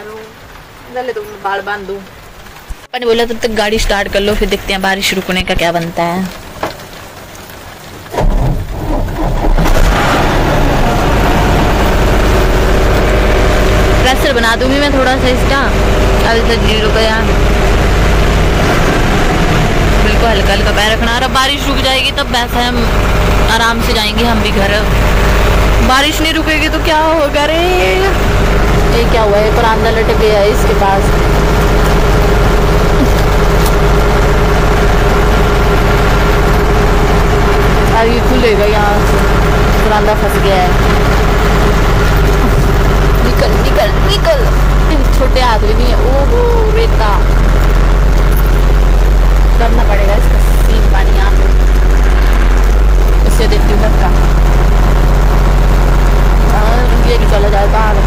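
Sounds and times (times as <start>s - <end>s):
constant whine: 0.0s - 58.0s
diesel engine starting and running: 0.0s - 58.0s
heavy rain: 0.0s - 58.0s.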